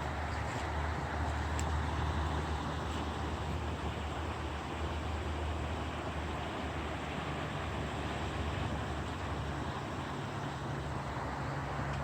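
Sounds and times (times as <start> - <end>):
flooded creek rushing: 0.0 - 12.0.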